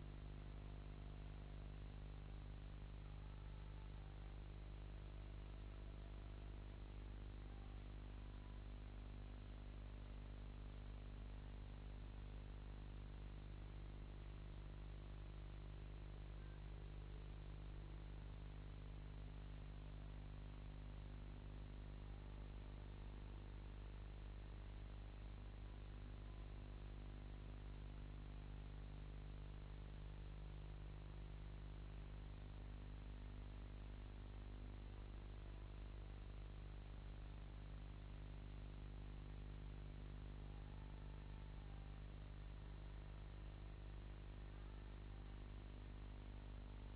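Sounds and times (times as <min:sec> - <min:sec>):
faint hiss: 0:00.0 - 0:46.9
low electrical hum: 0:00.0 - 0:46.9.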